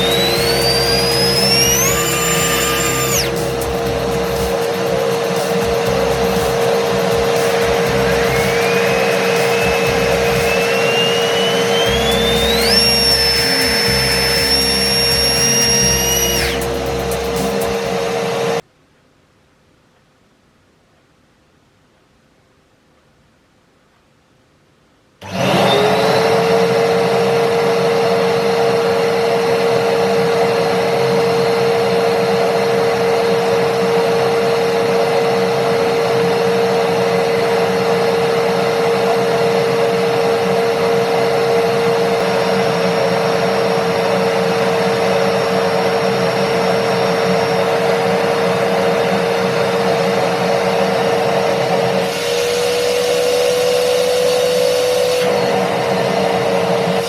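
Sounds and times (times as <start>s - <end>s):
vacuum cleaner motor running: 0.0s - 18.6s, 25.2s - 57.0s.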